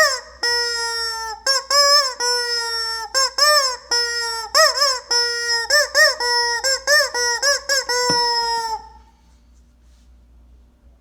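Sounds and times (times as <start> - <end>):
rubber chicken toy squeal: 0.0 - 9.0.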